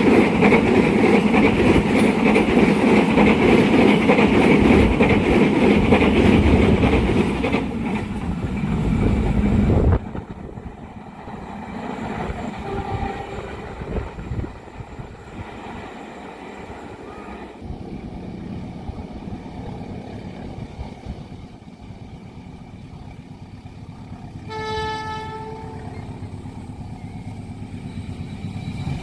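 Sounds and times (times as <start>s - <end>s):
train passing rumble: 0.0s - 29.0s
wheels clacking over rail joints: 0.0s - 29.0s.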